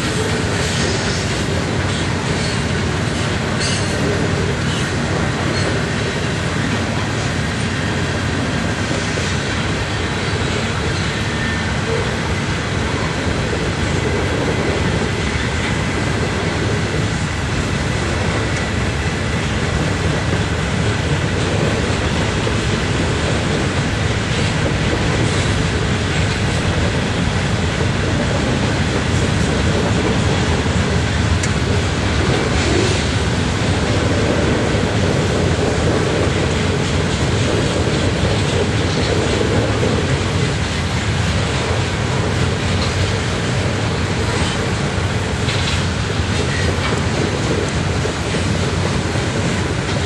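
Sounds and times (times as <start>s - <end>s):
steel wheels on rails: 0.0s - 50.0s.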